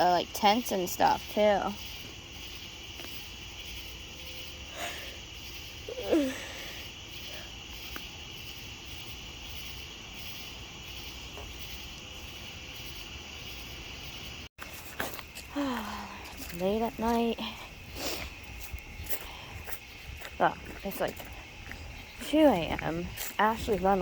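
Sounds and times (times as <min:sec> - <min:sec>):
insect chorus trilling: 0:00.0 - 0:24.0.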